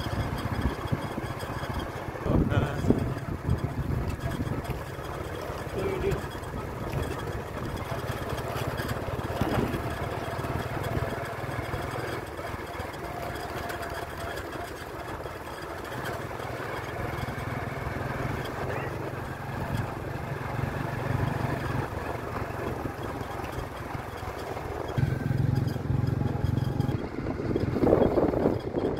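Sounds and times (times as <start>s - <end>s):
road noise: 0.0s - 28.9s
vehicle engine humming: 0.0s - 28.9s.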